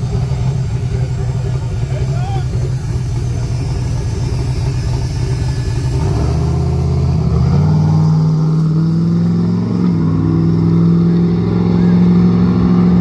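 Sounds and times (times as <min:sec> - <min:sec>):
drag car engine revving: 0:00.0 - 0:13.0.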